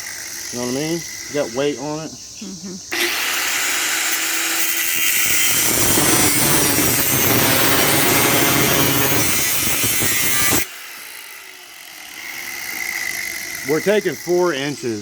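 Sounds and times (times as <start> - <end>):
angle grinder cutting steel: 0.0 - 1.8, 2.9 - 15.0.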